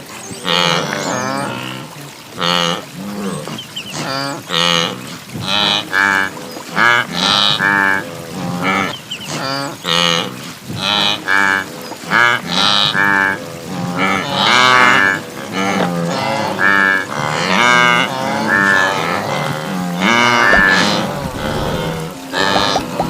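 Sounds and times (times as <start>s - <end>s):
wildebeest herd lowing calls: 0.4s - 23.0s.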